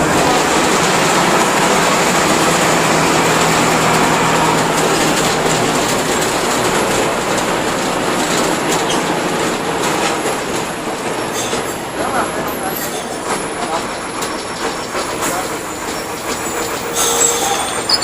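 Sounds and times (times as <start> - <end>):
diesel bus engine running: 0.0 - 18.0
rattle and road noise: 0.0 - 18.0.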